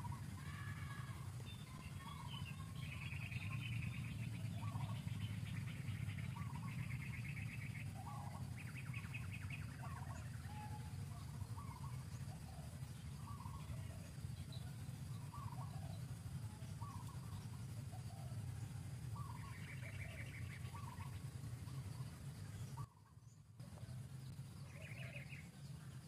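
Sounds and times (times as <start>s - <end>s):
birds chirping and trilling: 0.0s - 26.0s
steady low rumble: 0.0s - 26.0s.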